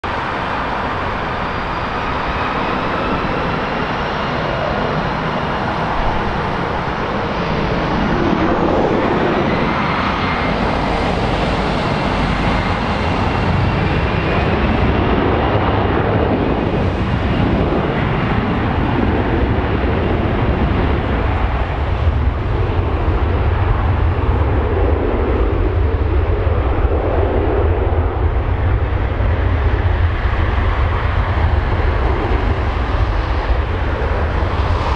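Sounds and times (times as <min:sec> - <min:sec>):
deep low engine rumble: 0:00.0 - 0:34.9
jet engines whining: 0:00.0 - 0:34.9.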